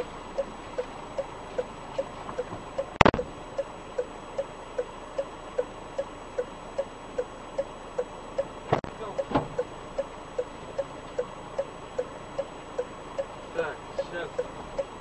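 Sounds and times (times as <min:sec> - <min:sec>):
car turn signal ticking: 0:00.0 - 0:15.0.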